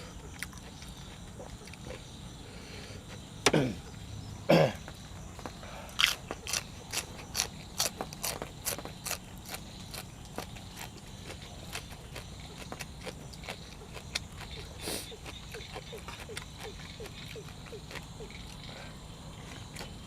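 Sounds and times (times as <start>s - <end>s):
person chewing crunchy food: 0.0s - 2.4s, 5.4s - 20.0s.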